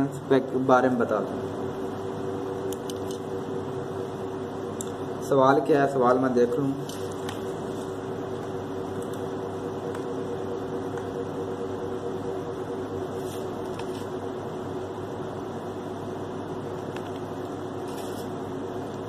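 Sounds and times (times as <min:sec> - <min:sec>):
mechanical hum with hiss: 0:00.0 - 0:19.0.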